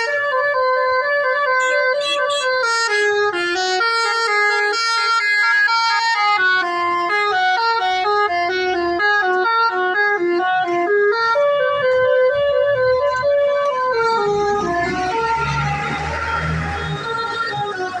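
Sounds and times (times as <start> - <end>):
bus horn playing a melody: 0.0 - 18.0.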